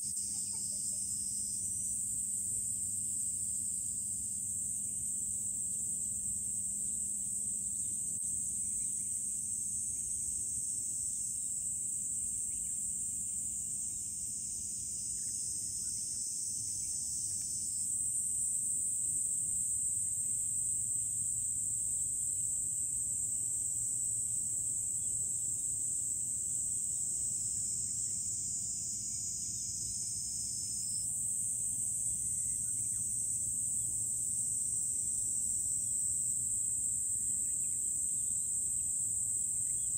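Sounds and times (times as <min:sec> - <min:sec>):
insects buzzing in trees: 0:00.0 - 0:39.9.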